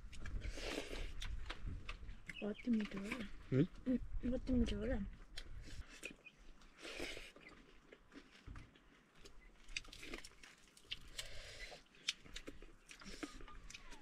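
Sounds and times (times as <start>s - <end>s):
chewing and lip-smacking: 0.0s - 3.5s, 5.2s - 14.0s.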